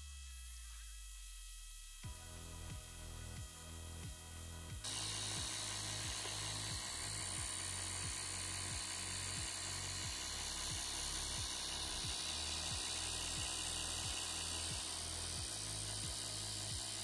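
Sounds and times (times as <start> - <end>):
electric motor pump whining: 0.0 - 17.0
torch burner hissing: 2.2 - 17.0.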